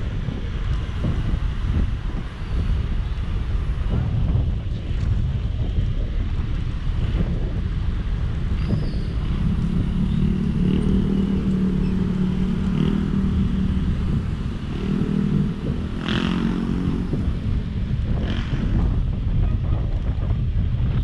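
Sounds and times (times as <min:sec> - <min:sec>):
hum of motor vehicles: 0:00.0 - 0:21.0
wind rushing over microphone: 0:00.0 - 0:21.0.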